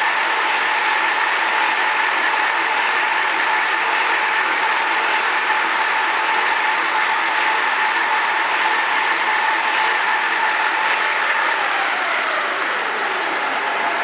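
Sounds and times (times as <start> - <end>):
loom mechanical clatter: 0.0 - 12.1
constant machine whine: 0.0 - 14.0.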